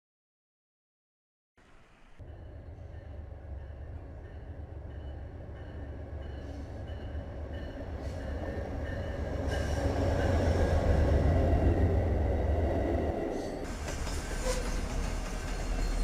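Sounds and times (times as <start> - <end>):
diesel train rumbling: 2.1 - 16.0.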